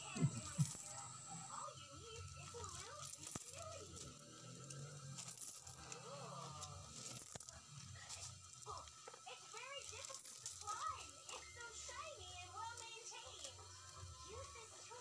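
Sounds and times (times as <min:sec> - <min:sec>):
coins clinking: 0:00.0 - 0:08.8, 0:09.6 - 0:15.0
distant voices: 0:00.0 - 0:15.0.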